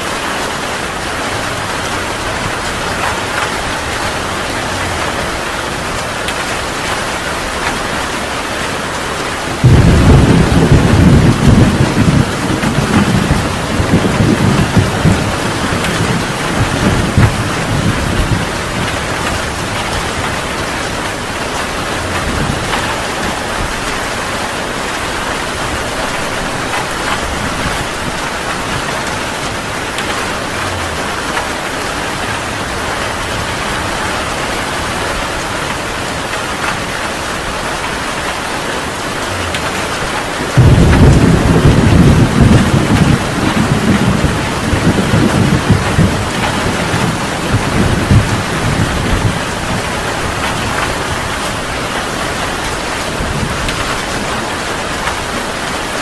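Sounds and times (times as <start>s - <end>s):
heavy rain falling: 0.0s - 56.0s
thunder clap and rumble: 0.1s - 56.0s.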